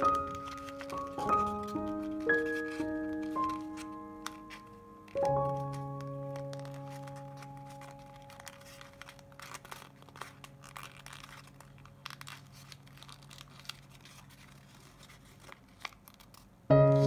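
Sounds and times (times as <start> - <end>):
paper crinkling while folded: 0.0 - 17.0
small crackles: 0.0 - 17.0.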